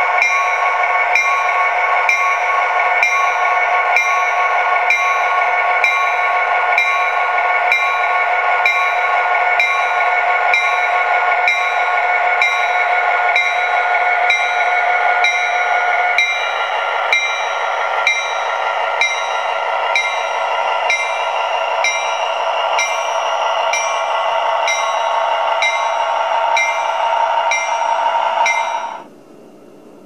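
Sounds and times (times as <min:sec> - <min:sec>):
locomotive bell dinging: 0:00.0 - 0:29.1.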